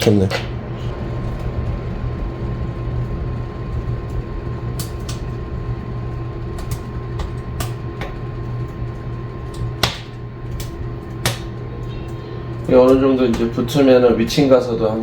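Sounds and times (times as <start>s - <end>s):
firewood crackling and popping: 0.0s - 15.0s
steady low hum: 0.0s - 15.0s.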